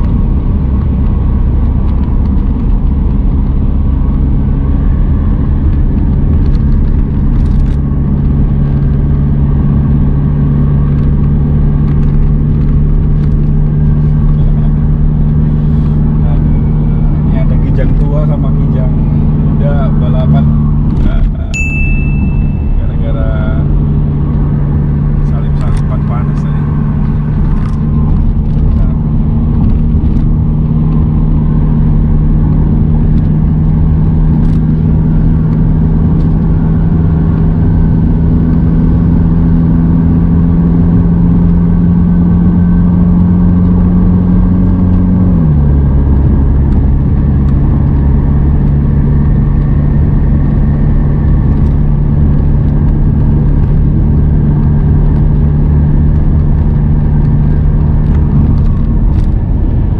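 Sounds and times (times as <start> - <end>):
engine and drivetrain drone: 0.0 - 59.9
tyre and road noise: 0.0 - 59.9.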